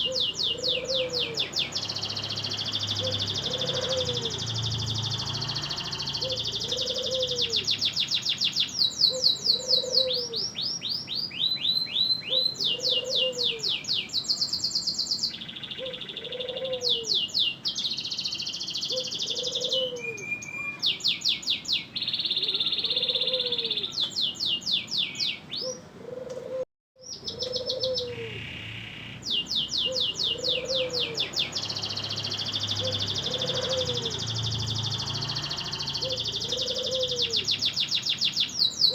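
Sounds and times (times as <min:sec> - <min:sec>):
canary singing trills: 0:00.0 - 0:25.9, 0:27.0 - 0:38.9.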